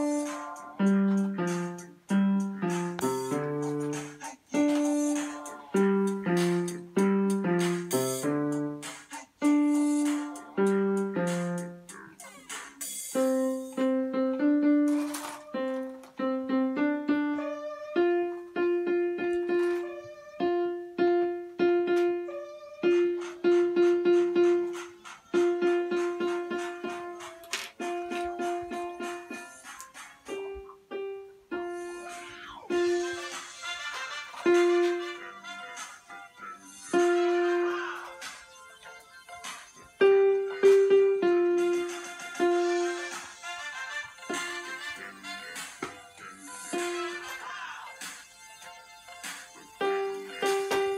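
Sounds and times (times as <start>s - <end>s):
electronic keyboard piano notes: 0.0s - 12.3s, 12.9s - 47.5s, 48.2s - 50.9s.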